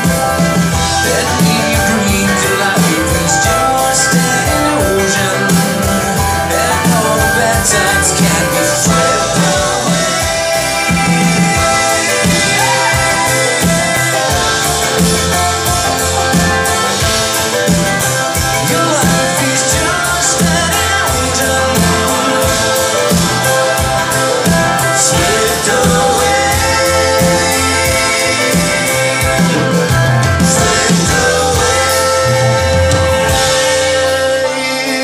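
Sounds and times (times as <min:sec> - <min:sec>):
drum beat: 0:00.0 - 0:34.7
live band playing: 0:00.0 - 0:35.0
person singing: 0:00.0 - 0:35.0.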